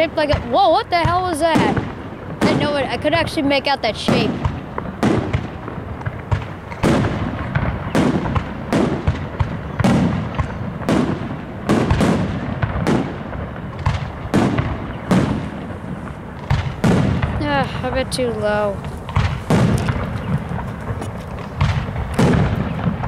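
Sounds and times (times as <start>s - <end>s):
firework shells booming: 0.0s - 23.0s.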